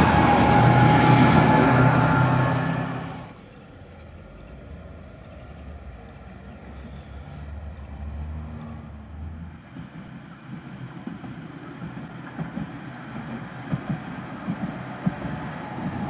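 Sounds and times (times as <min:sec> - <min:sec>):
tram passing with low hum: 0:00.0 - 0:16.0.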